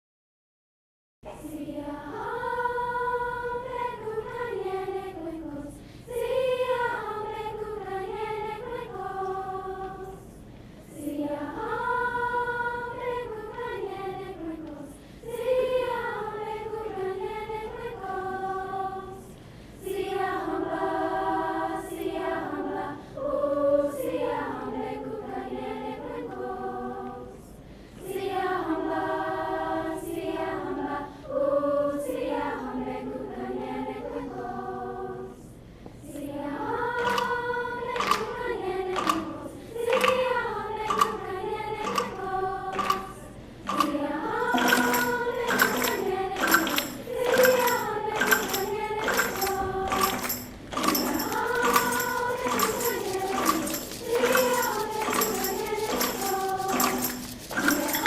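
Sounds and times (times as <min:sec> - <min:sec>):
choir singing: 0:01.3 - 0:58.0.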